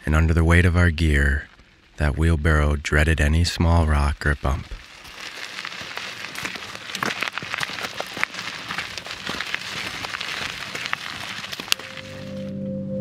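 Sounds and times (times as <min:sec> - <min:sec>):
wheelbarrow tyre crunching gravel: 0:00.0 - 0:12.6.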